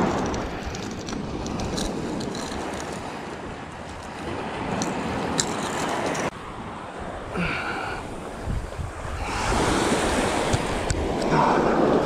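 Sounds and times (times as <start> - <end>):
small waves breaking on shore: 0.0 - 12.0
wind buffeting microphone: 0.0 - 12.0.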